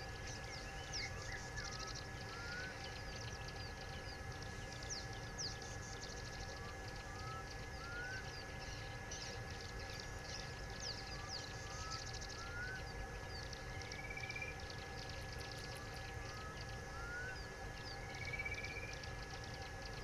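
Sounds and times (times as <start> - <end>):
birds whistling: 0.4 - 19.2
bird trill: 0.4 - 20.0.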